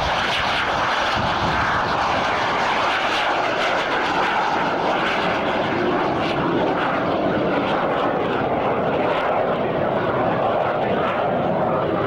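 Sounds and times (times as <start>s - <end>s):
airplane engine running: 0.0s - 12.0s.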